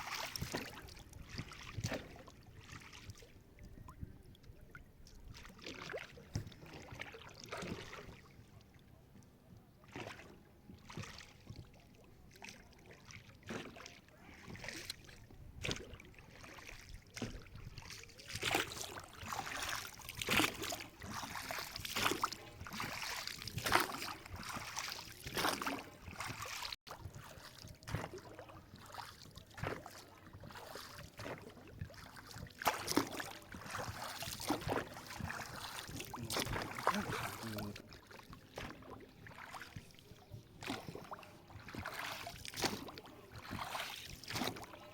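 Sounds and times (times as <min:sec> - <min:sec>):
water lapping and splashing: 0:00.0 - 0:44.9.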